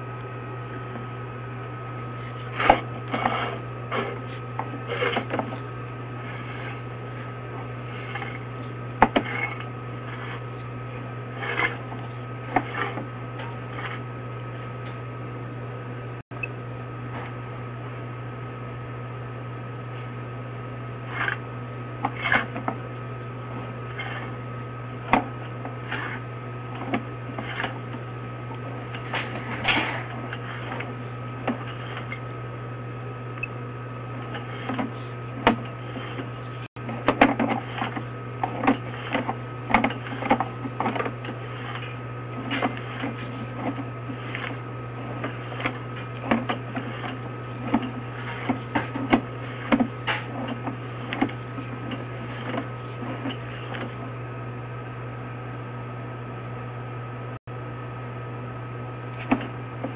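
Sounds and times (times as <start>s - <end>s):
steady electrical hum: 0.0s - 59.9s.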